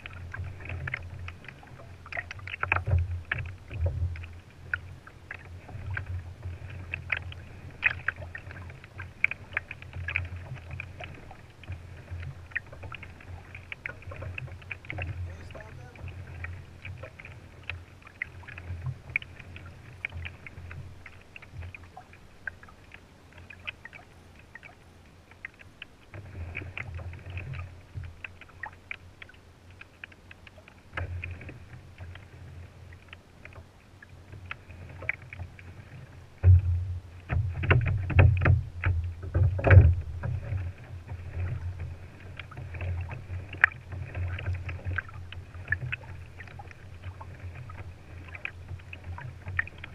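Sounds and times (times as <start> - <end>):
small knocks and ticks: 0.0 - 49.9
water lapping against a hull: 0.0 - 49.9.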